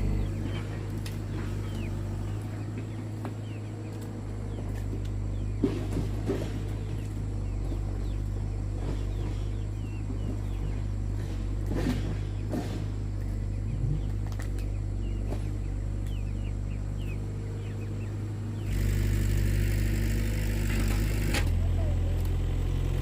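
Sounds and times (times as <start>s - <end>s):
low motor hum: 0.0s - 23.0s
small birds chirping: 0.0s - 23.0s.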